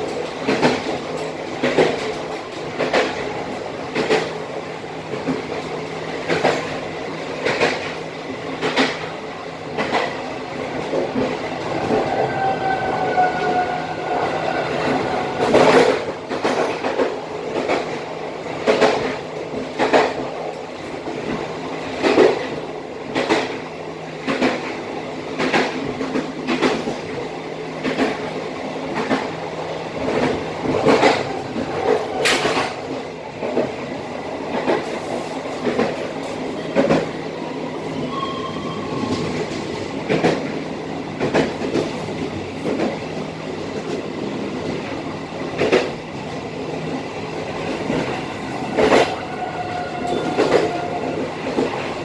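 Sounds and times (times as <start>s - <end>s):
train clickety-clack on track: 0.0s - 52.0s.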